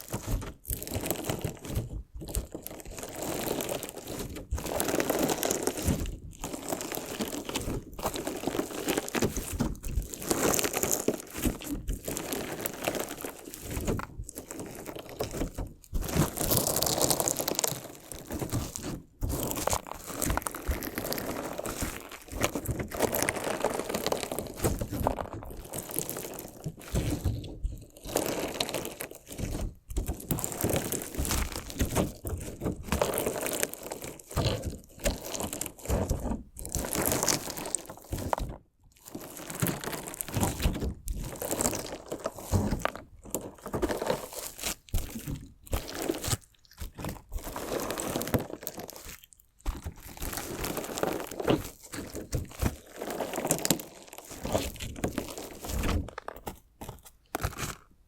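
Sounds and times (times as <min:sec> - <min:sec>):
crunchy slime being squished: 0:00.0 - 0:58.0.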